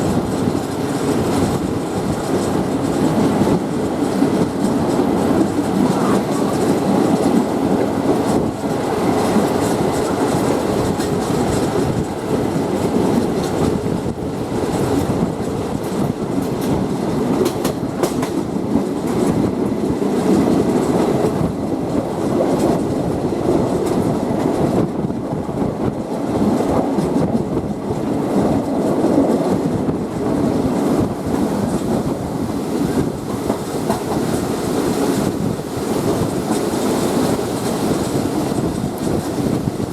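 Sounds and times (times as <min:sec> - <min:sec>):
train coach rumble: 0:00.0 - 0:39.9
wheels clicking over rail joints: 0:00.0 - 0:39.9.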